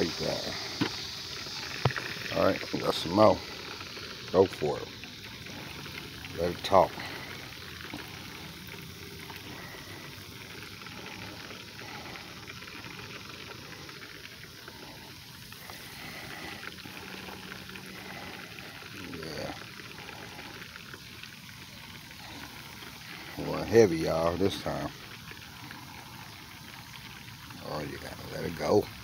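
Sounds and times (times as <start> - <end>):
oil sizzling and crackling: 0.0 - 29.0.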